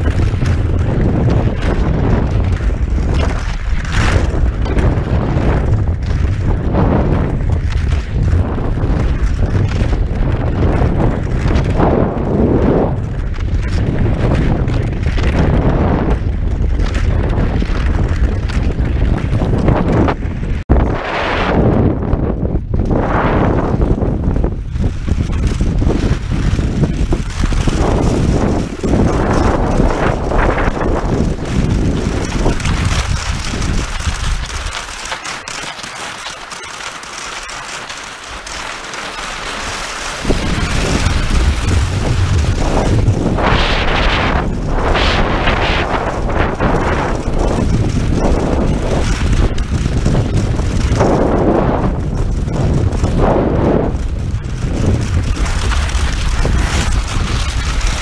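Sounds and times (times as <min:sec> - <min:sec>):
skis swishing in crusty snow: 0:00.0 - 0:15.6, 0:25.0 - 0:58.0
wind buffeting microphone: 0:00.0 - 0:35.2, 0:38.4 - 0:58.0.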